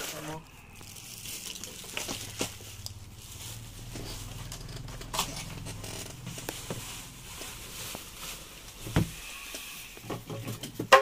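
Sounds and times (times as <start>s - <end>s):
plastic wrap rustling: 0.0s - 11.0s.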